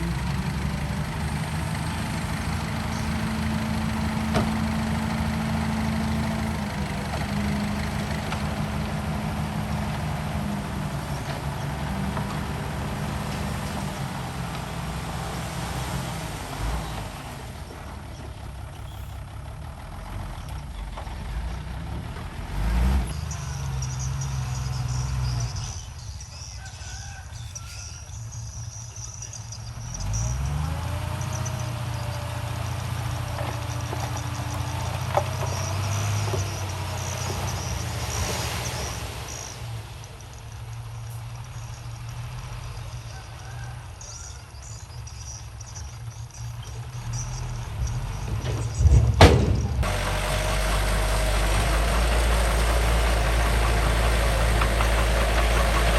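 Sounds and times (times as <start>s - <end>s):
heavy diesel engines working: 0.0s - 55.9s.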